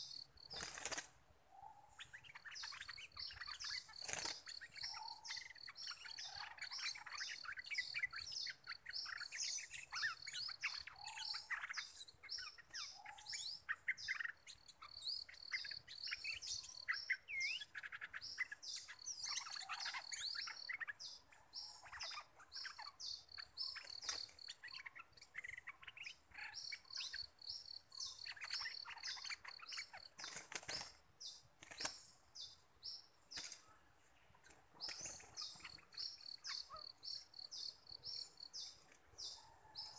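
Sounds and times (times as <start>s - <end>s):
high repeated bird chirps: 0.0s - 33.6s, 34.4s - 39.9s
birds whistling song: 0.0s - 33.8s, 34.4s - 39.9s.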